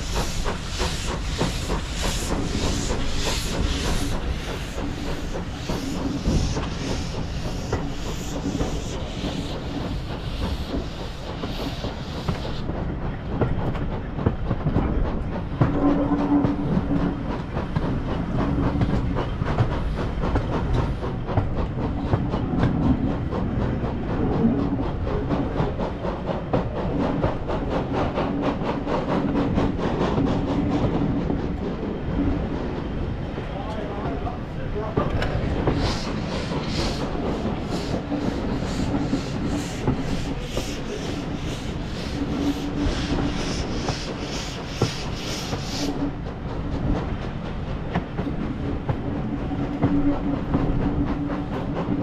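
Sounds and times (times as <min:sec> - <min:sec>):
carriages clattering on rails: 0:00.0 - 0:52.0
steam locomotive chuffing: 0:00.0 - 0:52.0.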